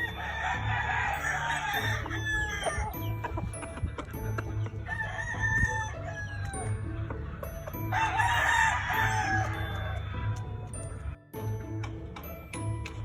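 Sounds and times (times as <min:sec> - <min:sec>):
roosters crowing: 0:00.0 - 0:10.6
background music with low beat: 0:00.0 - 0:13.0
chickens clucking: 0:00.0 - 0:13.0.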